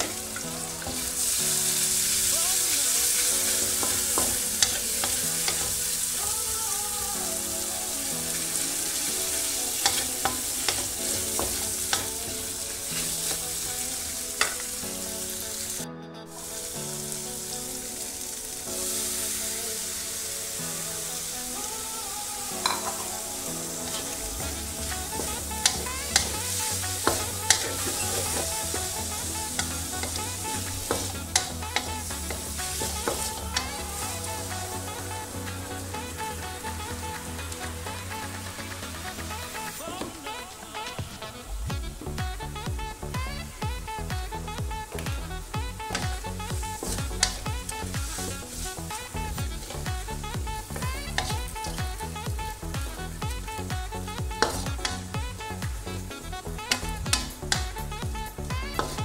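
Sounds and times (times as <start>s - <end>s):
noodles sizzling in a hot pan: 0.0s - 15.8s, 16.4s - 39.7s, 45.8s - 53.7s, 54.4s - 57.7s.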